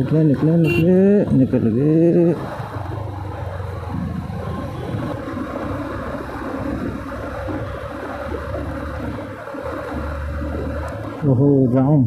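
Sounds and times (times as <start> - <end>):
wind rushing over microphone: 1.2 - 11.6
motorcycle engine running: 1.4 - 11.2.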